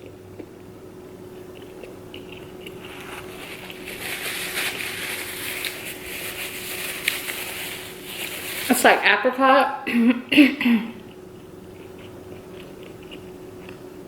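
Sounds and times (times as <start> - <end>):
person chewing food: 0.0 - 8.7, 10.9 - 14.0
faint steady hum: 0.0 - 14.0.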